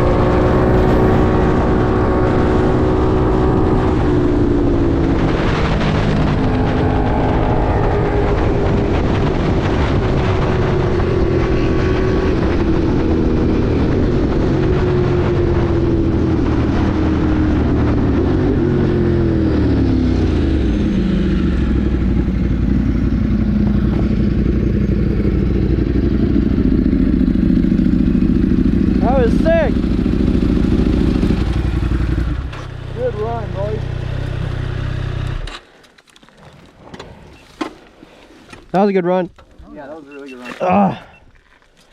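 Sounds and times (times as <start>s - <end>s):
motorcycle engine running: 0.0s - 35.5s.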